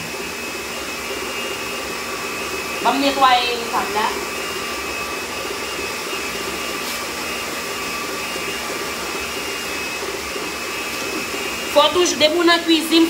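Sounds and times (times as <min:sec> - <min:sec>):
electric mixer whirring: 0:00.0 - 0:13.0.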